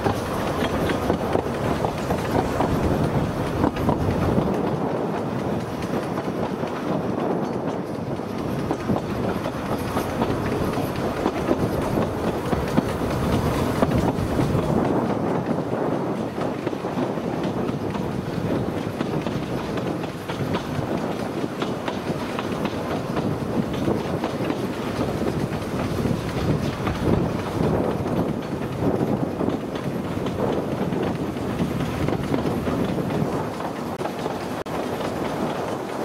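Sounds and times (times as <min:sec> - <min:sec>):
train wheels rolling on rails: 0:00.0 - 0:36.0.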